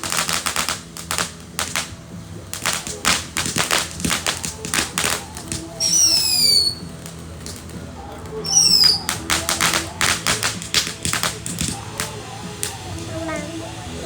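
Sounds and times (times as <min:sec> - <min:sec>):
firework whistles falling: 0:00.0 - 0:07.7, 0:08.3 - 0:13.0
firework pops and bangs: 0:00.0 - 0:13.1.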